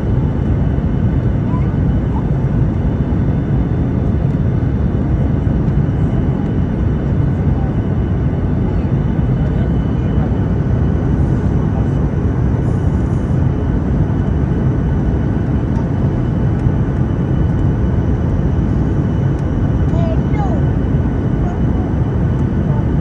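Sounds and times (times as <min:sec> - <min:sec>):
airliner cabin engine noise: 0:00.0 - 0:23.0.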